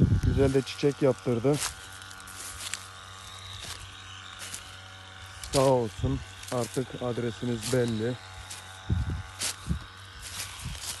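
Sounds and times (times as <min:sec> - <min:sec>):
footsteps on straw and leaves: 0:00.0 - 0:11.0.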